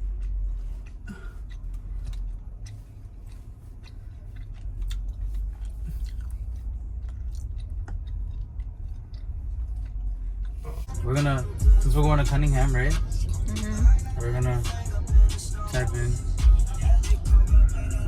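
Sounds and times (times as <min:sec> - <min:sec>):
car cabin rumble: 0:01.6 - 0:18.0.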